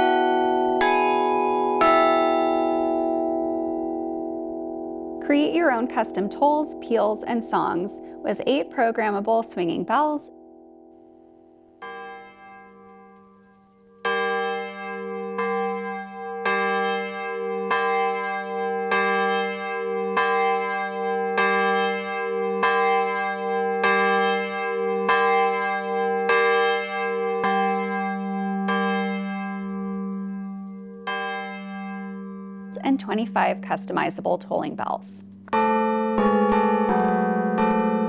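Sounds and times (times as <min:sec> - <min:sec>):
low bell striking: 0:00.0 - 0:38.0.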